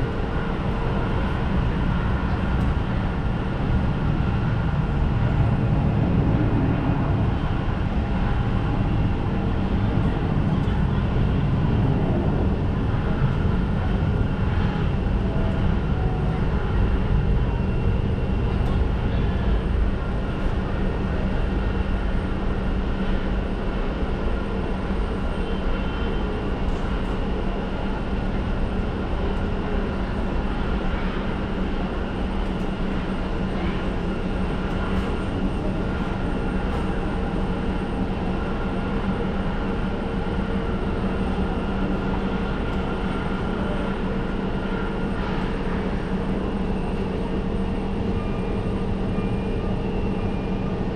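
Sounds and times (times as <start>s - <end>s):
airliner engines whining: 0.0s - 50.9s.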